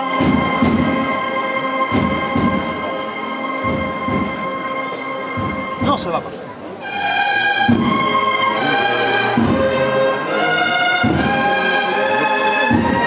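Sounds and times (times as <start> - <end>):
held brass chords: 0.0 - 13.0
low drum beat: 1.8 - 3.0, 3.6 - 13.0.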